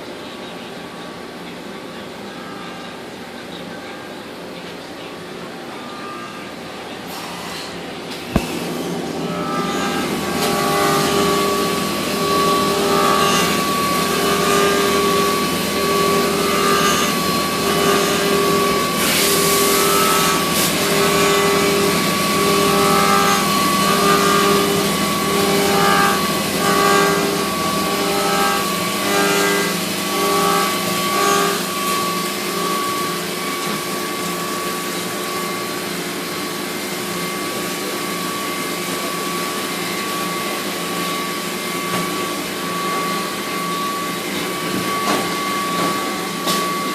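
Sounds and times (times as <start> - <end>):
machining center whine: 0.0 - 46.9.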